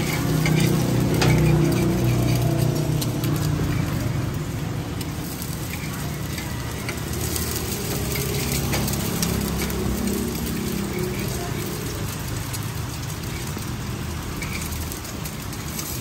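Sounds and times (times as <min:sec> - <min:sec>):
oil sizzling: 0:00.0 - 0:16.0.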